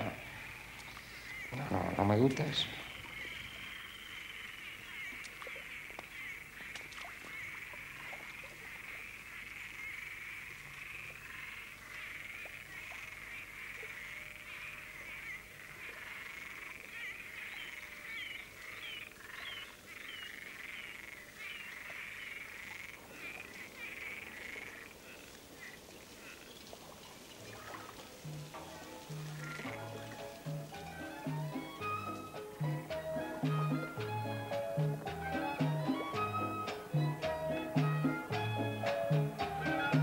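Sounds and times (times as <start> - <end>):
chorus of calling animals: 0.0 - 40.0.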